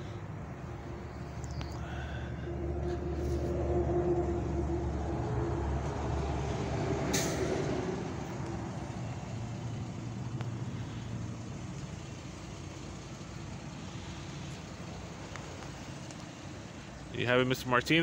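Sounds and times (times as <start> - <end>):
low traffic background: 0.0 - 18.0
vehicle engine running: 0.0 - 18.0.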